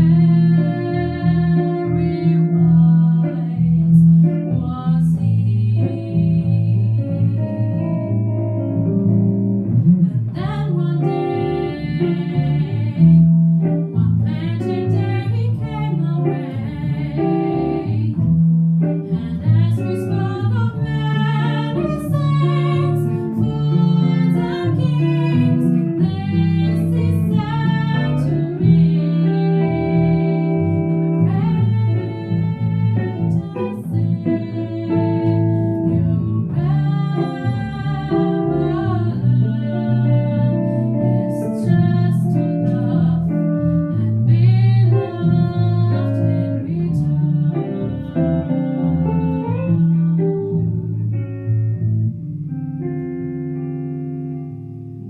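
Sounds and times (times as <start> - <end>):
guitar and bass accompaniment: 0.0 - 55.0.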